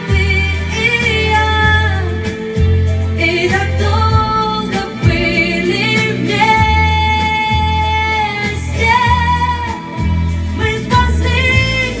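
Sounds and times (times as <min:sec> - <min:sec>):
pop ballad backing music: 0:00.0 - 0:12.0
woman singing: 0:00.0 - 0:12.0.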